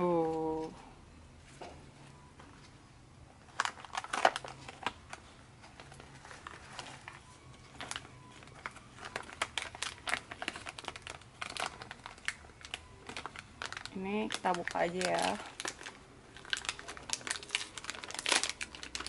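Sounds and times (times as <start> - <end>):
cardboard packaging crinkling: 3.4 - 19.0.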